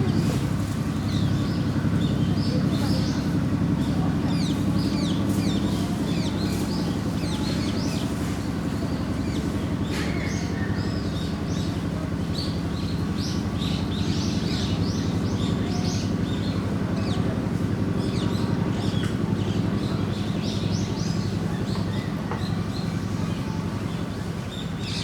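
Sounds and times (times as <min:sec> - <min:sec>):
construction machine engine running: 0:00.0 - 0:25.0.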